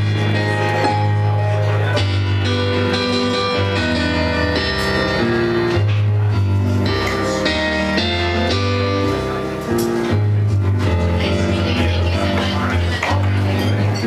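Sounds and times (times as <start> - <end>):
keyboard: 0.0 - 14.0
live band playing instrumental: 0.0 - 14.0
low bass line: 0.0 - 14.0.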